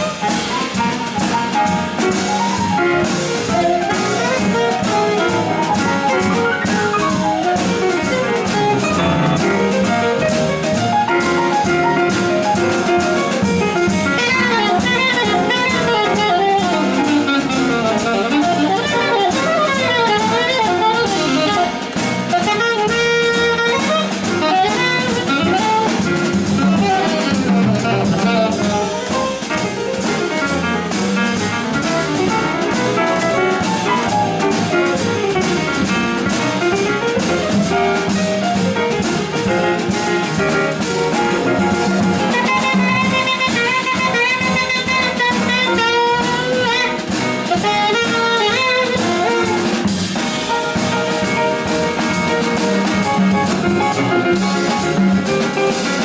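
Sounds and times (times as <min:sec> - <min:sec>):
jazz quartet playing: 0:00.0 - 0:56.0.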